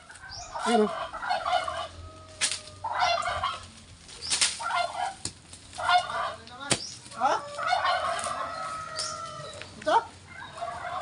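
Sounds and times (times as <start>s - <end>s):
turkey gobbling: 0.0s - 6.5s, 7.1s - 9.6s, 10.2s - 11.0s.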